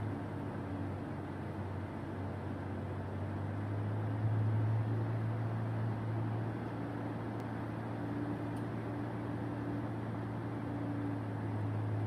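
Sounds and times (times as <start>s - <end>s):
aircraft engine droning in cabin: 0.0s - 12.0s.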